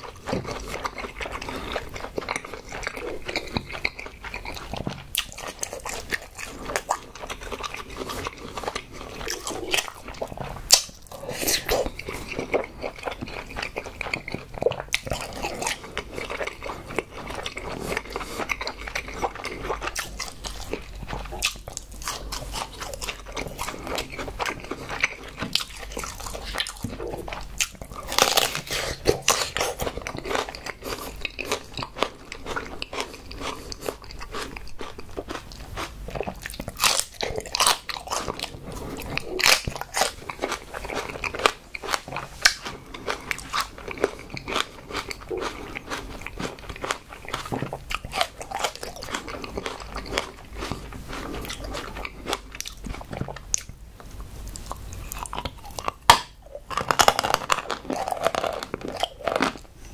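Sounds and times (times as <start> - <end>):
chewing and crunching leaf: 0.0 - 59.9.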